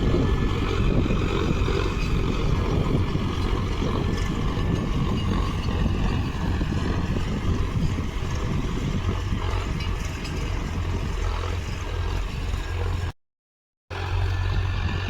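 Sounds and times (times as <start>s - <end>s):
tractor diesel engine running: 0.0s - 13.2s, 13.9s - 15.0s.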